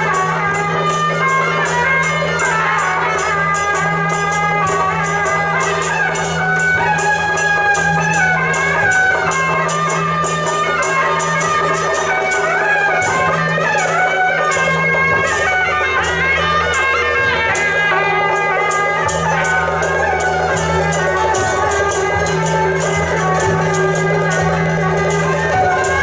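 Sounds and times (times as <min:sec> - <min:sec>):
cymbal-like strikes: 0:00.0 - 0:26.0
reedy wind melody: 0:00.0 - 0:26.0.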